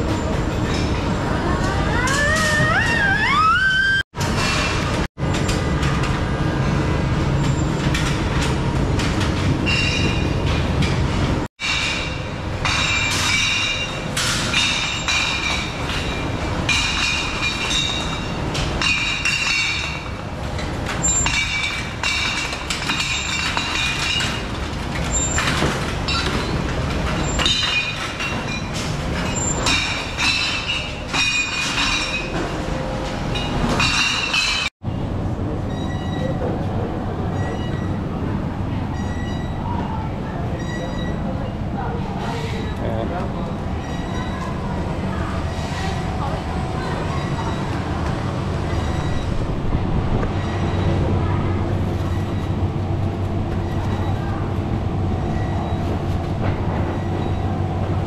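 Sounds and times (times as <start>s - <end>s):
factory machinery running: 0.0s - 58.0s.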